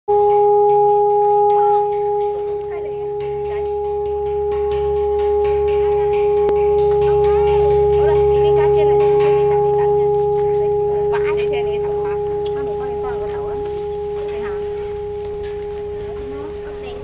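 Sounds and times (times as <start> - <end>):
gong singing hum: 0.1 - 17.0.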